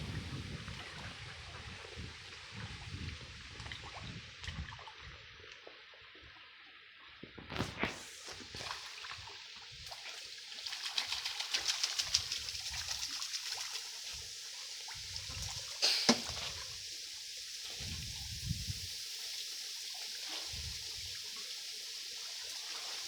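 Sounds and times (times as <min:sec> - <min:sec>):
patter of small splashes: 0:00.0 - 0:23.0
water splashing and trickling: 0:00.0 - 0:23.0.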